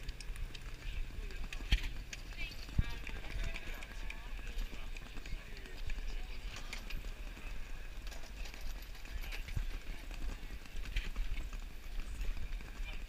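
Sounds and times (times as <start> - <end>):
clacks on cobblestones: 0.0 - 13.0
crowd hubbub: 0.0 - 13.0.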